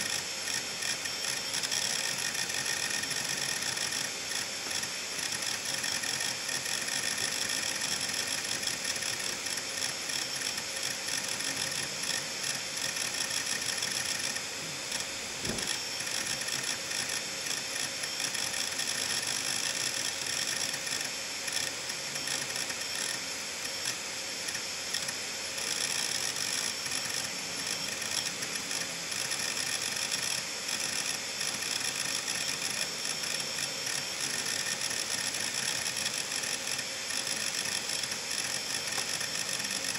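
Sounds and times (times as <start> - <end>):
hard drive head clicking: 0.0 - 39.9
hard drive platters whining: 0.0 - 39.9.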